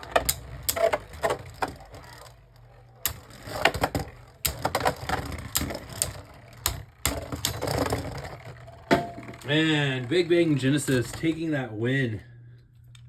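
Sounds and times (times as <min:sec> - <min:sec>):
spinning tops colliding clacks: 0:00.0 - 0:11.3.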